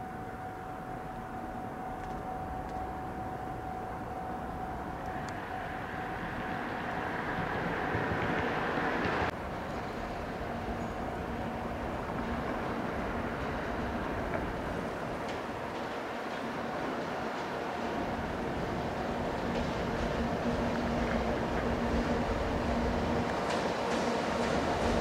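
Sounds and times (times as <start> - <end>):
distant train rumble: 0.0 - 25.0
faint constant tone: 0.0 - 25.0.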